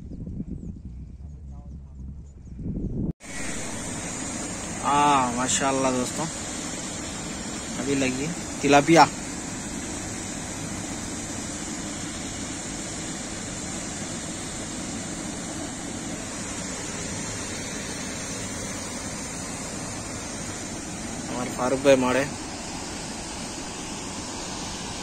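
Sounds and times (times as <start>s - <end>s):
wind: 0.0s - 25.0s
rushing water: 3.2s - 25.0s.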